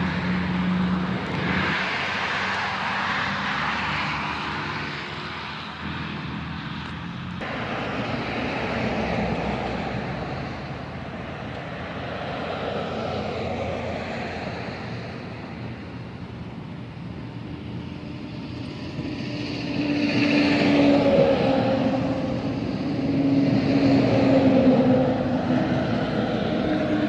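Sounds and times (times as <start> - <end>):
heavy trucks passing: 0.0 - 27.0.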